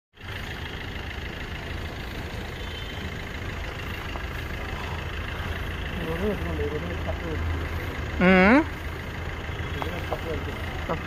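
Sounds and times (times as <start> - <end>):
car engine idling: 0.1 - 11.0.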